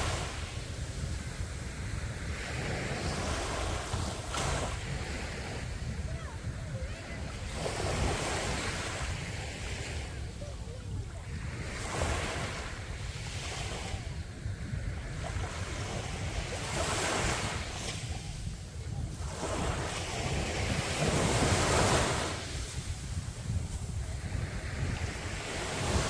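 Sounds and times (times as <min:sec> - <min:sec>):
sea waves breaking on a beach: 0:00.0 - 0:26.0.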